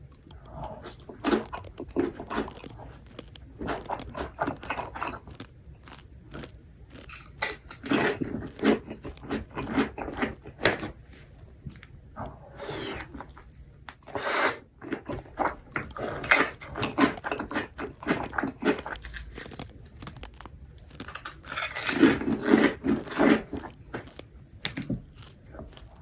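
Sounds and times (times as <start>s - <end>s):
crunchy food being chewed: 0.0s - 26.0s.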